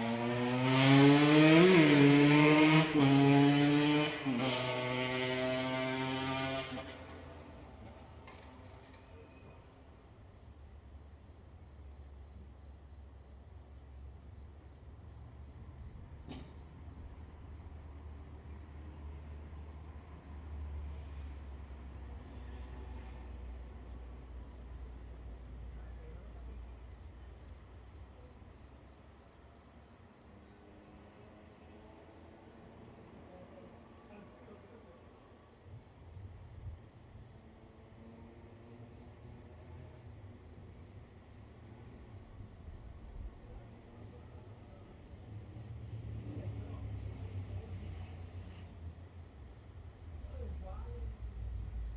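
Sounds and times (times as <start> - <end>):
crickets chirping: 0.1 - 51.9.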